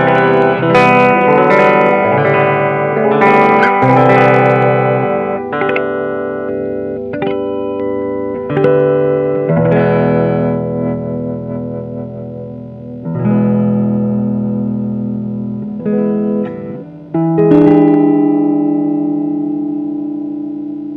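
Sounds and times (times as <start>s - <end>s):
electric guitar chords ringing: 0.0s - 20.9s.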